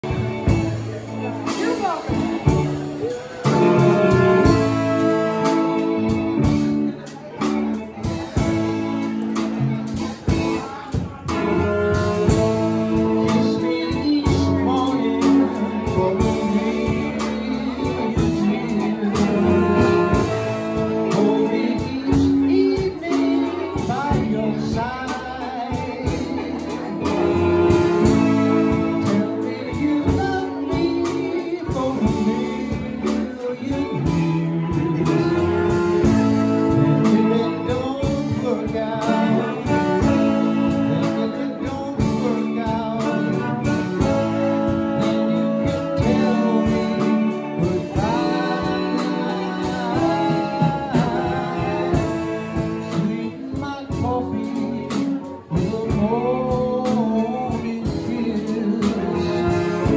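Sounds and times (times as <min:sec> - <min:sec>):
big band playing: 0:00.0 - 0:59.9
man singing: 0:00.0 - 0:59.9.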